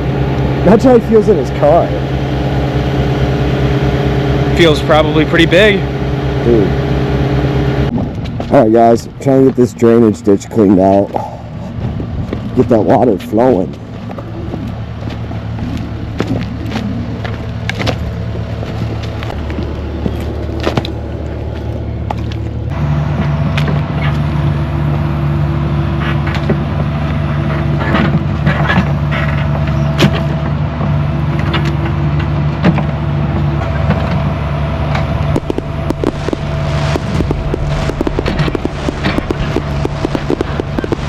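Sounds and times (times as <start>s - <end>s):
diesel engine running: 0.0s - 9.4s, 13.8s - 41.0s.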